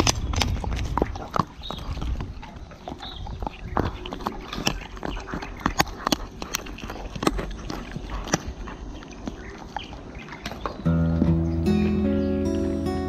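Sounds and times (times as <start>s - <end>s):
dog gnawing bone: 0.0s - 10.8s.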